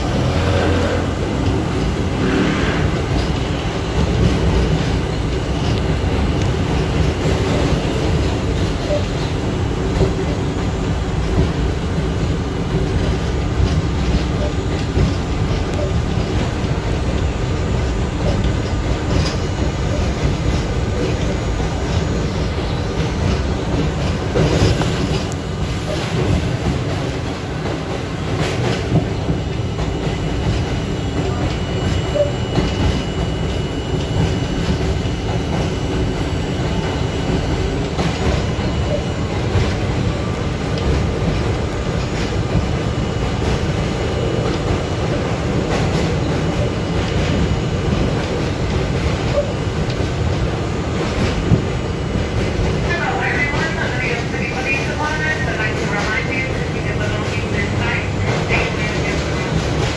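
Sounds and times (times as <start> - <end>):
clacks over rail joints: 0.0 - 59.9
wheels rumbling on rail: 0.0 - 59.9.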